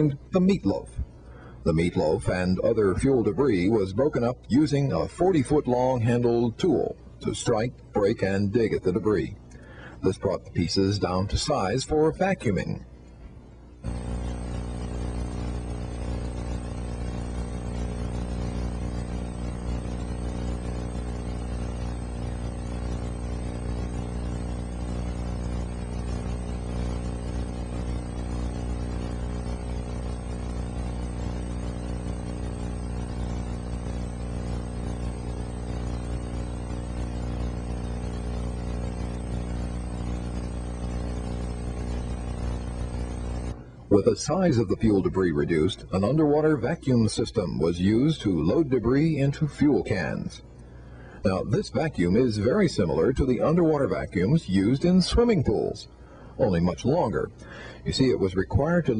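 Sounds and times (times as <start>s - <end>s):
steady buzzing hum: 0.0s - 58.9s.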